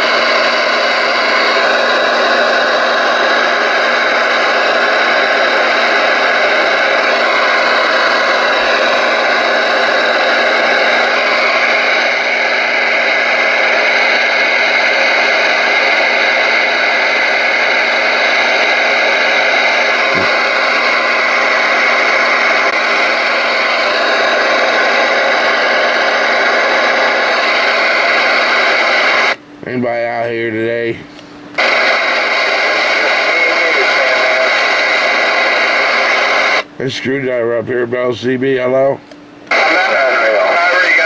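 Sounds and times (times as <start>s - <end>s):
radio static hiss: 0.0s - 41.0s.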